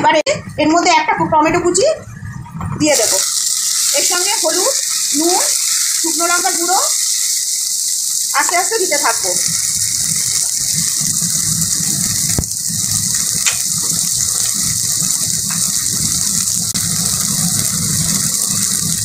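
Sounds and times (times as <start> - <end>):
food sizzling in oil: 2.8 - 19.0.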